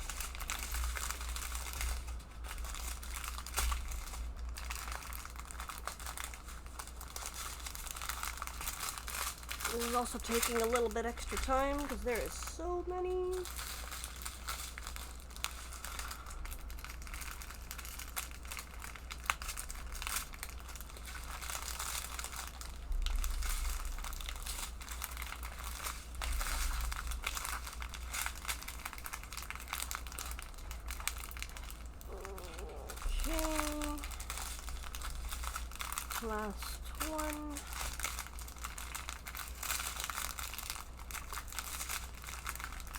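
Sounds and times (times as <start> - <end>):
plastic packets crinkling: 0.0 - 42.9.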